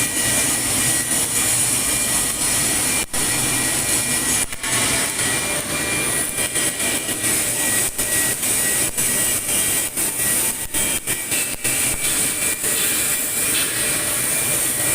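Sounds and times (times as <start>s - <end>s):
welding arc hissing: 0.0s - 14.9s.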